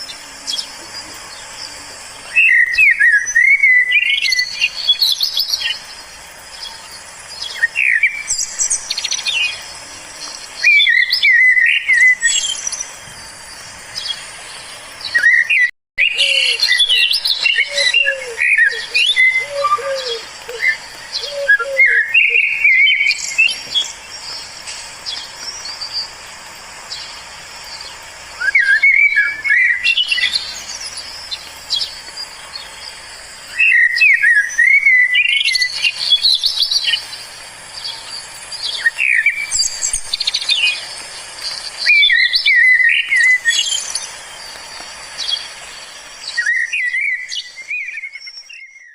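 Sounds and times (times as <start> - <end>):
wild birds chirping: 0.0 - 48.9.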